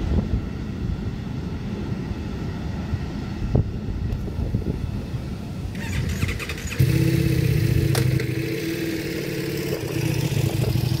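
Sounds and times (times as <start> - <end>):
steady engine drone: 0.0 - 11.0.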